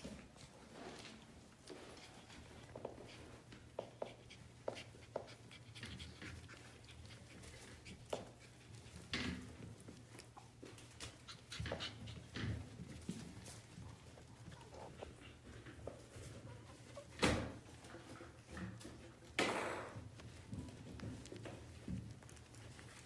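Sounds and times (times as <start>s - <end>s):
puppies moving about: 0.0s - 23.0s.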